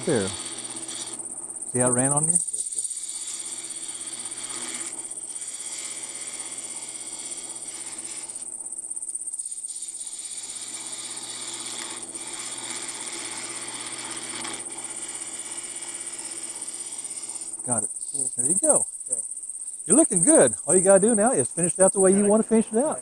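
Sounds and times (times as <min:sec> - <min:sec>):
tool cutting spinning wood: 0:00.0 - 0:17.8, 0:19.9 - 0:23.0
wood lathe whining: 0:00.0 - 0:17.8, 0:19.9 - 0:23.0.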